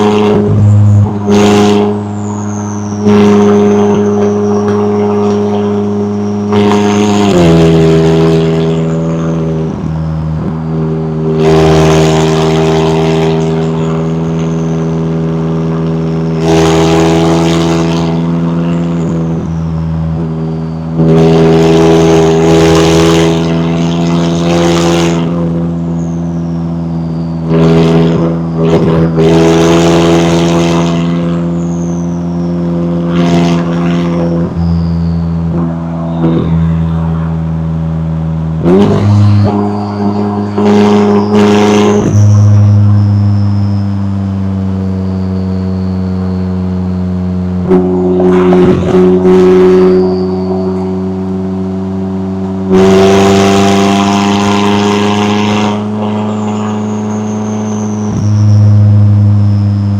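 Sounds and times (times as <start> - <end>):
car engine under way: 0.0 - 59.9.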